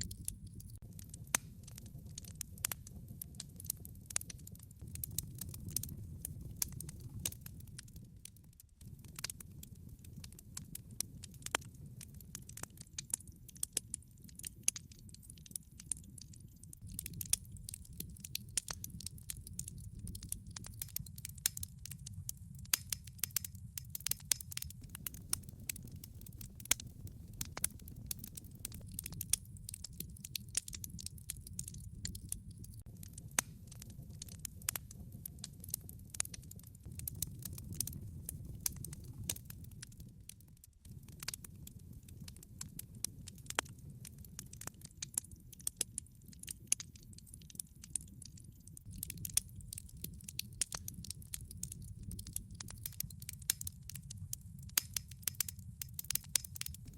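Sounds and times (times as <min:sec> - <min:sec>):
fire rumbling: 0:00.0 - 0:56.9
logs crackling and popping: 0:00.0 - 0:56.9.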